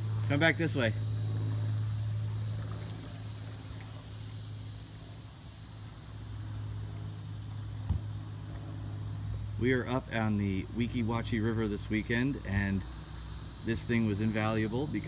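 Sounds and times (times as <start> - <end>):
insects shrilling: 0.0 - 15.0
low steady hum: 0.0 - 15.0.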